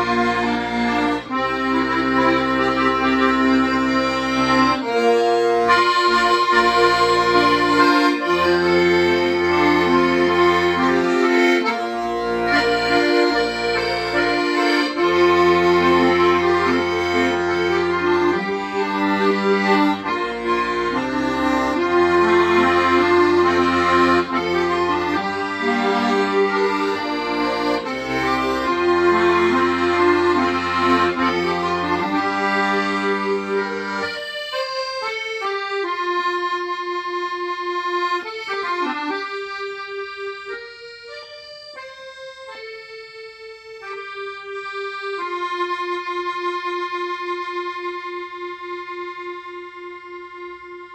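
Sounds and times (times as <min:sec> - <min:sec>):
accordion playing slow melody: 0:00.0 - 0:50.9.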